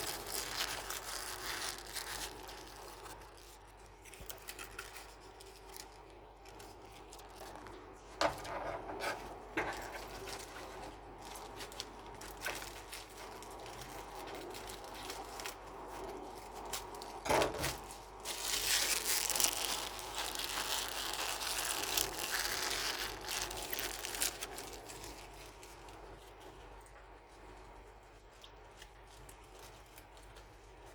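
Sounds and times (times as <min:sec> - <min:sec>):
paper crinkling and rustling: 0:00.0 - 0:30.9.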